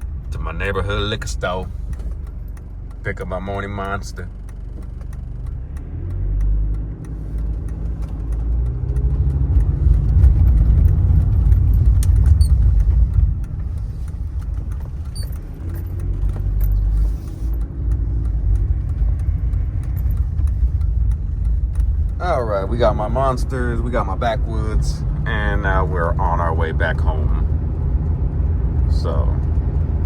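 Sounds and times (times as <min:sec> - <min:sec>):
car engine accelerating: 0:00.0 - 0:30.0
road rumble: 0:00.0 - 0:30.0.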